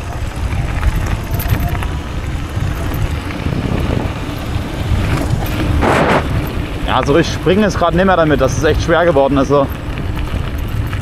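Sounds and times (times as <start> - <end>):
tyres rolling on gravel: 0.0 - 11.0
wind rushing over microphone: 0.0 - 11.0.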